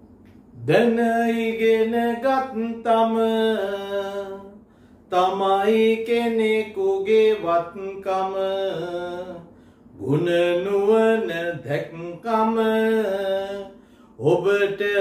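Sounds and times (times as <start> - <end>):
man chanting: 0.6 - 15.0.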